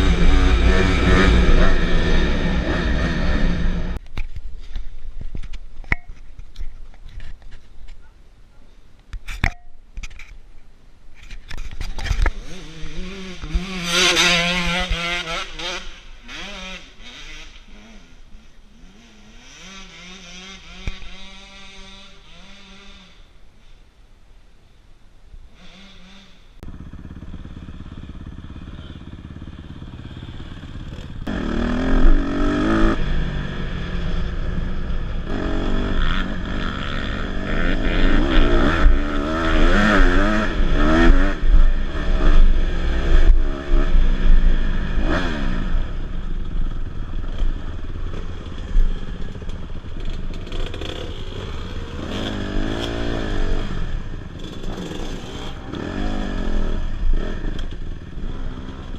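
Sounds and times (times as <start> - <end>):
dirt bike engine revving: 0.0 - 4.0, 12.2 - 23.3, 25.5 - 58.9.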